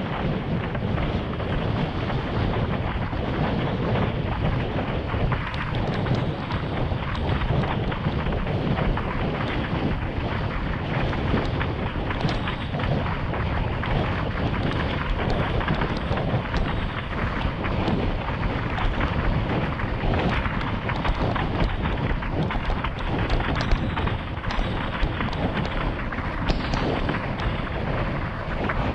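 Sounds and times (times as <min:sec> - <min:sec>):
water slapping against hull: 0:00.0 - 0:28.9
wind rumble on microphone: 0:00.0 - 0:28.9.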